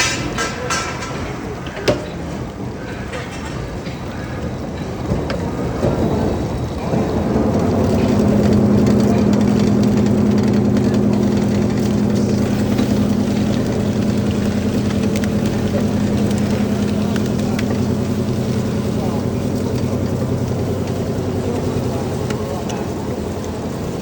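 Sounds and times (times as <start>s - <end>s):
machinery humming: 0.0s - 24.0s
faint clicks: 2.9s - 24.0s.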